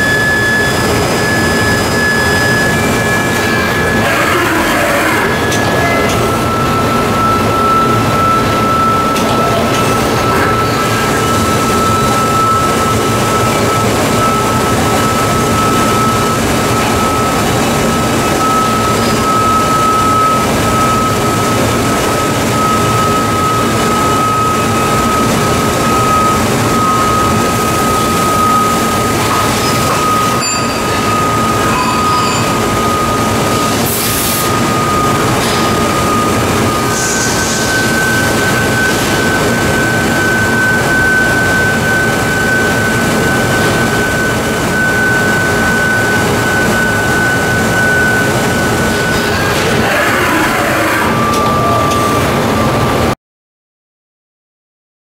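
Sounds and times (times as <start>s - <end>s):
lathe running with high whine: 0.0s - 53.1s.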